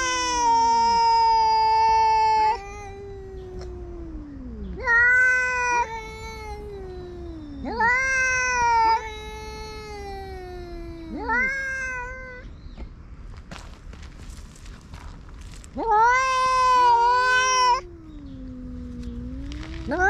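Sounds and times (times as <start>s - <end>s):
cat yowling: 0.0s - 12.5s, 15.8s - 20.0s.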